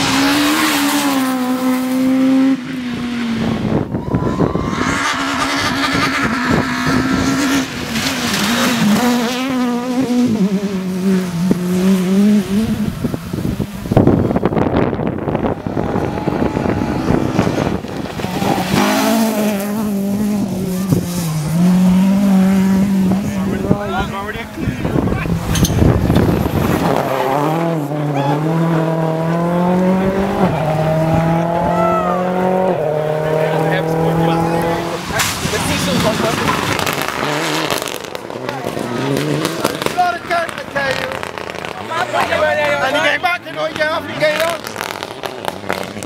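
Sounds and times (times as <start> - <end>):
race car engines at high revs: 0.0 - 46.0.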